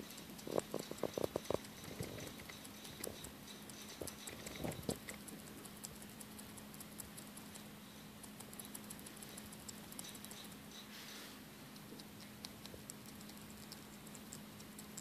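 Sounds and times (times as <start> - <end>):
bat chewing and smacking: 0.0 - 10.9, 11.6 - 15.0.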